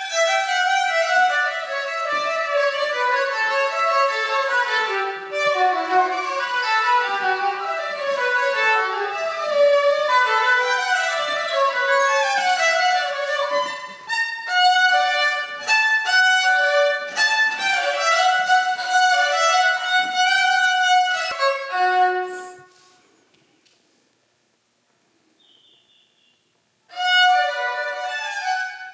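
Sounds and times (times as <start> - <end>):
solo violin playing: 0.0 - 22.9, 26.9 - 28.9.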